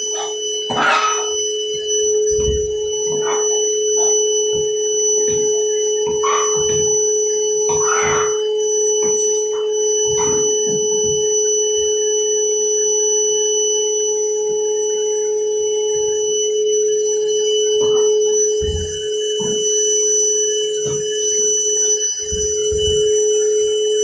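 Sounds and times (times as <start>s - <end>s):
vacuum cleaner whine: 0.0s - 24.0s.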